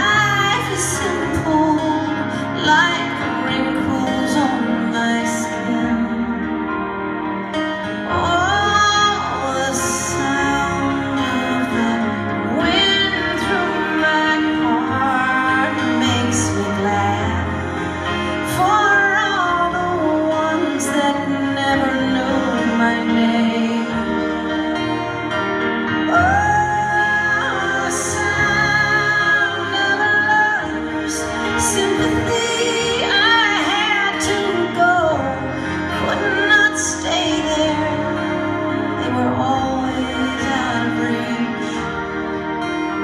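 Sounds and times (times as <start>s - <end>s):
keyboard and band accompaniment: 0.0s - 43.0s
woman singing into microphone: 0.0s - 43.0s.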